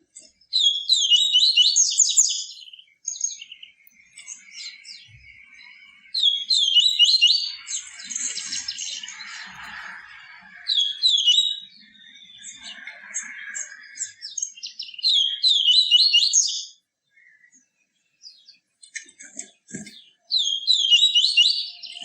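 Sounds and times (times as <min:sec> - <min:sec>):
bird singing high chirps: 0:00.1 - 0:18.7, 0:20.0 - 0:22.0.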